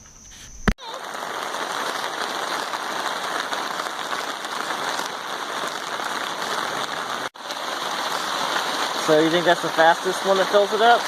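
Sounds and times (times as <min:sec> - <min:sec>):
steady rain patter: 0:00.8 - 0:11.0.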